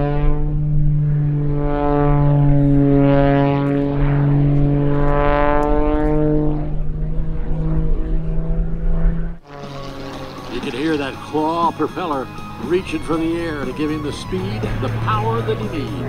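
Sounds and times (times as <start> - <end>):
propeller aircraft engine droning: 0.0 - 16.0.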